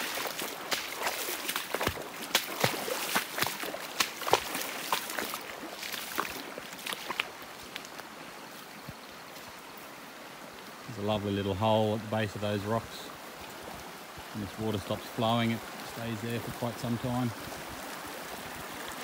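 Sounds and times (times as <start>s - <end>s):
flowing water rushing: 0.0s - 19.0s
footsteps splashing in creek: 0.0s - 19.0s.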